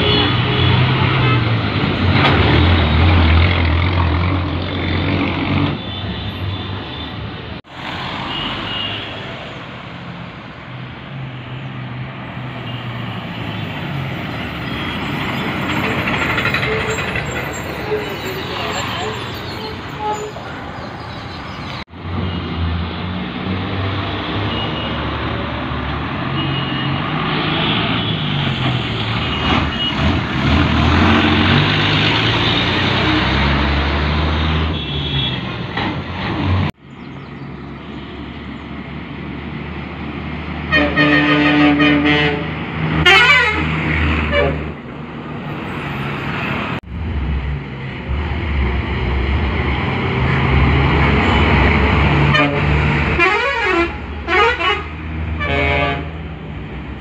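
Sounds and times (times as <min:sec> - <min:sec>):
bus diesel engines running: 0:00.0 - 0:57.0.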